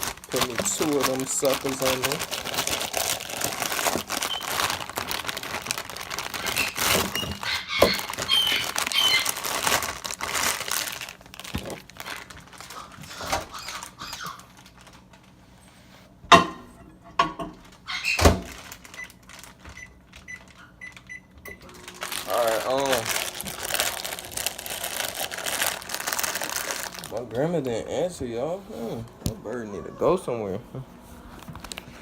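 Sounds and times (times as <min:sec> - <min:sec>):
crinkling handling noise: 0:00.0 - 0:16.2, 0:17.5 - 0:29.7, 0:30.6 - 0:32.0.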